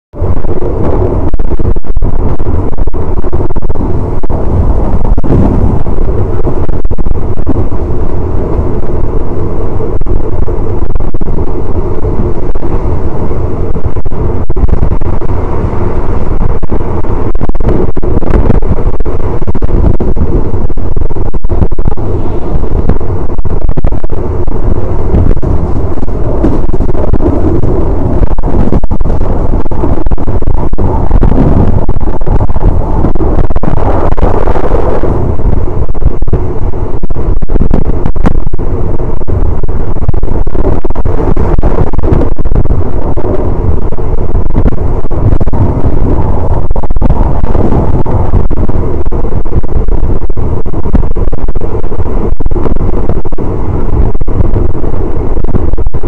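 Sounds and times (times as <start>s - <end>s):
train rumbling on rails: 0.1s - 56.0s
wind buffeting microphone: 0.1s - 56.0s.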